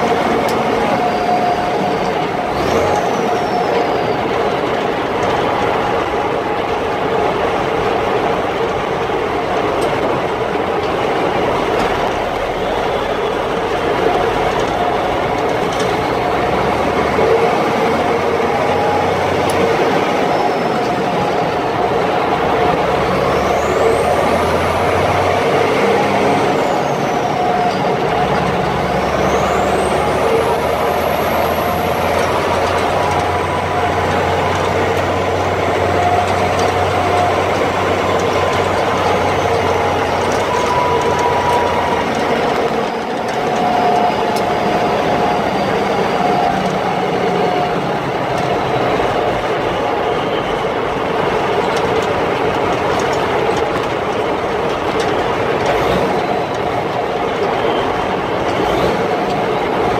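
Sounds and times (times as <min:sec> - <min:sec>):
truck diesel engine from inside cab: 0:00.0 - 0:59.9.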